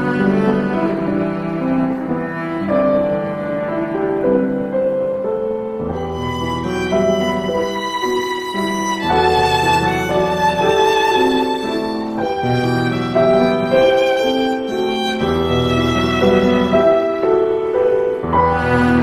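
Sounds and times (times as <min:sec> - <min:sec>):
cello notes: 0:00.0 - 0:19.0
piano bass notes: 0:00.0 - 0:19.0
violin melody: 0:00.0 - 0:19.0.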